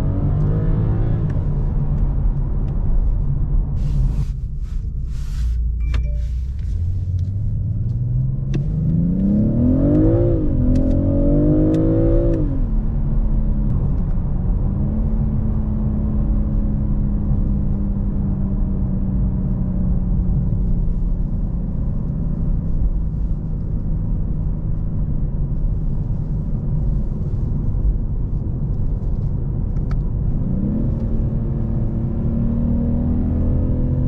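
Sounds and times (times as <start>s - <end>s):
car engine from inside cabin: 0.0s - 34.0s.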